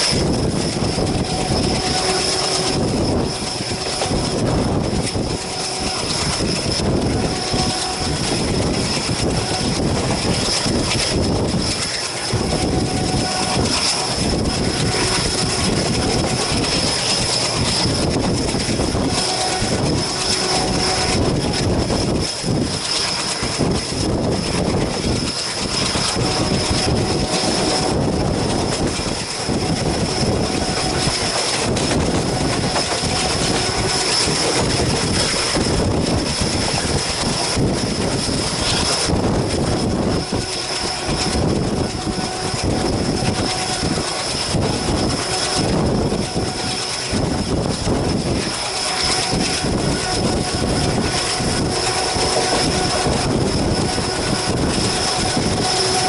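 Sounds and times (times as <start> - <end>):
rumble of train wheels on rail: 0.0 - 56.0
thin high whine: 0.0 - 56.0.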